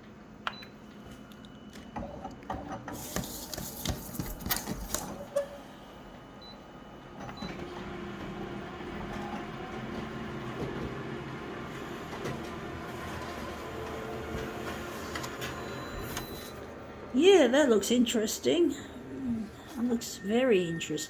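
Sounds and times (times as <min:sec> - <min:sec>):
photocopier humming: 0:02.9 - 0:21.0.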